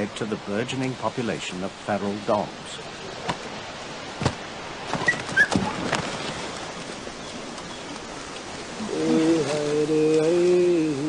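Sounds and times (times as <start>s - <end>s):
outdoor ambience hiss: 0.0s - 11.0s.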